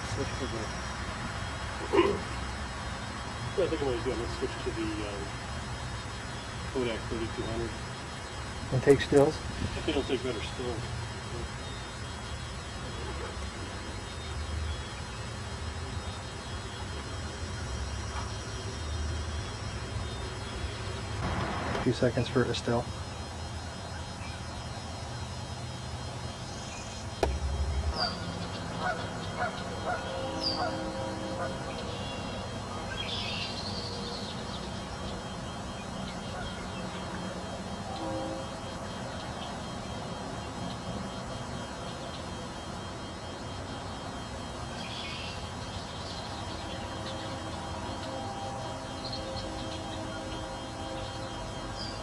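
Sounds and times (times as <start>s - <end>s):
birds honking calls: 0.0s - 52.0s
low steady hum: 0.0s - 52.0s
outdoor background noise: 0.0s - 52.0s.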